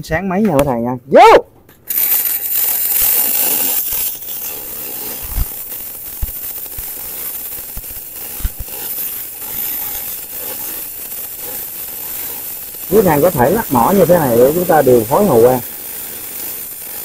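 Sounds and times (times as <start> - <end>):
welding arc hissing crackle: 1.7 - 17.0.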